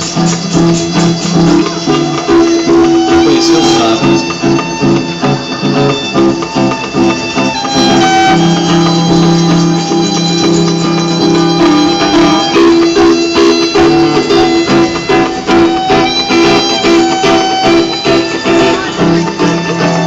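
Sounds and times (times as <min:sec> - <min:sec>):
busker strumming plucked strings: 0:00.0 - 0:20.0.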